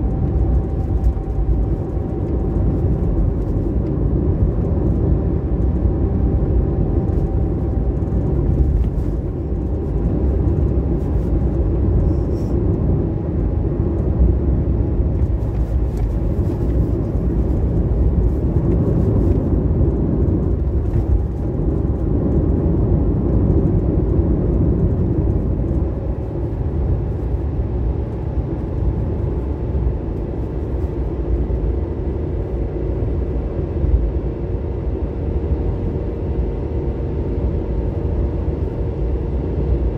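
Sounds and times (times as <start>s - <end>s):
car engine: 0.0s - 39.9s
road noise: 0.0s - 39.9s.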